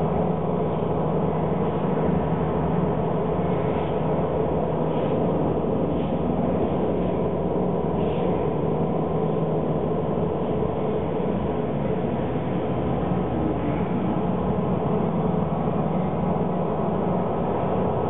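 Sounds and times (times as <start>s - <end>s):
low rumble over speakers: 0.0s - 18.0s.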